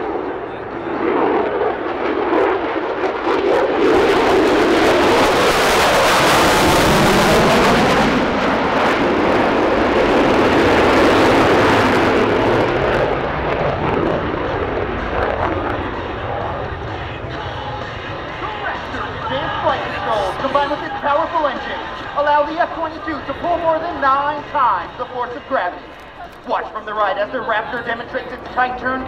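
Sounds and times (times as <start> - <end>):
jet engines in afterburner: 0.0 - 25.9.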